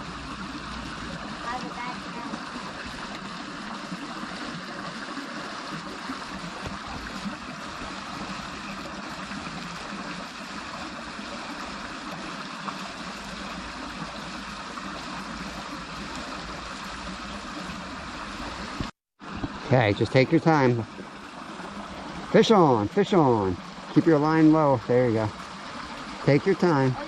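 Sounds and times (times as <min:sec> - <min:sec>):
creek flowing water: 0:00.0 - 0:27.0.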